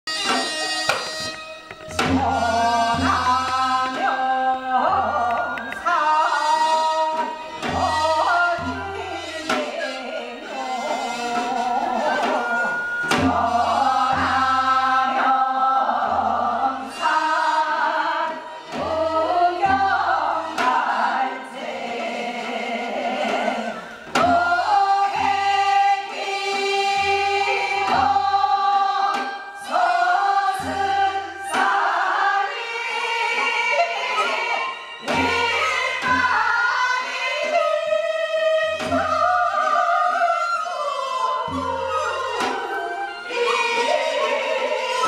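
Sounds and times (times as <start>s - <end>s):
group singing folk song: 1.8s - 45.0s.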